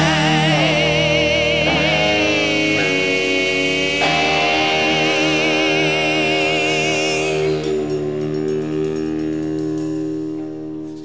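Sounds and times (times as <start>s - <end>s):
guitar ringing: 0.0s - 11.0s
live band holding a chord: 0.0s - 11.0s.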